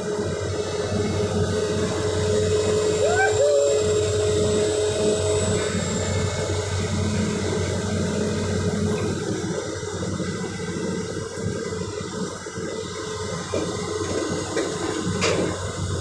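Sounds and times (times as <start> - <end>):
excavator diesel engines running: 0.0 - 16.0.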